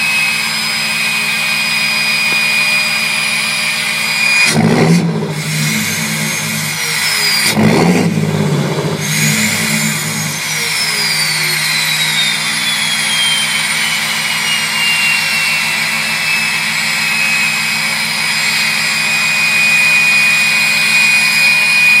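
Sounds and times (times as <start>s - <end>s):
diesel engine idling: 0.0s - 22.0s
turbo whistle: 0.0s - 22.0s.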